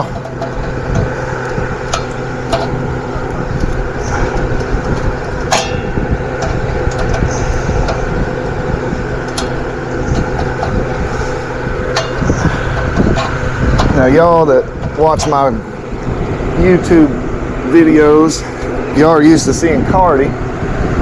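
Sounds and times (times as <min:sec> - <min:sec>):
machine drone: 0:00.0 - 0:21.0.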